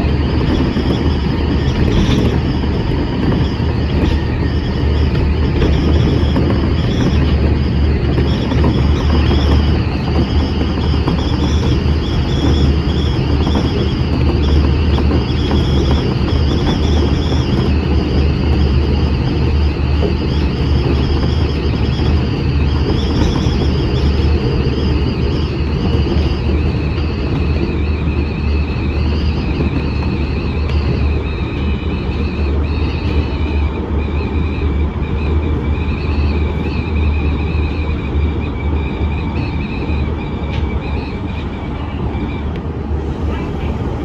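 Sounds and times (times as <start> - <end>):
high-pitched train whine: 0.0 - 44.0
wheels rumbling on rail: 0.0 - 44.0.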